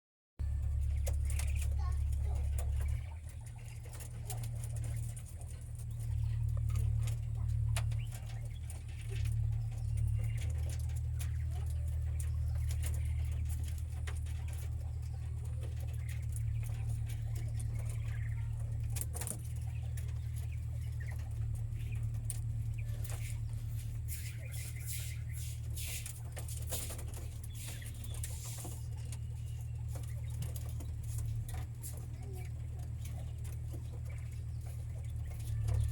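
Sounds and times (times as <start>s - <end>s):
quail pecking and scratching: 0.4s - 35.9s
soft quail calls: 0.4s - 35.9s
steady low hum: 0.4s - 35.9s.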